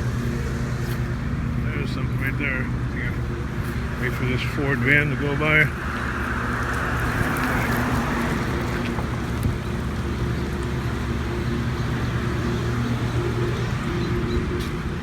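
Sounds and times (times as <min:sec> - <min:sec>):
passing van road noise: 0:00.0 - 0:15.0
vehicle engine idling: 0:00.0 - 0:15.0.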